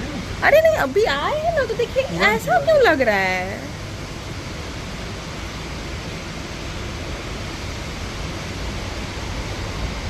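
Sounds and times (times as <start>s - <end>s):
heavy rain: 0.0s - 10.0s.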